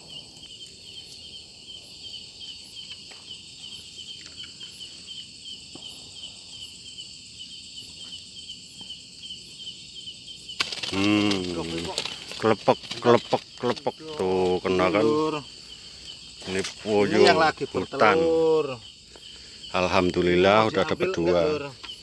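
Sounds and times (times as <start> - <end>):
high insect hum: 0.0 - 22.0
insects chirping: 0.0 - 22.0.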